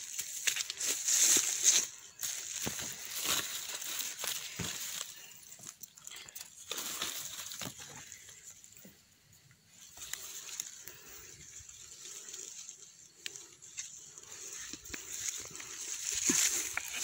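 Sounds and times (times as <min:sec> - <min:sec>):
rustling of grass and dry leaves: 0:00.0 - 0:17.0.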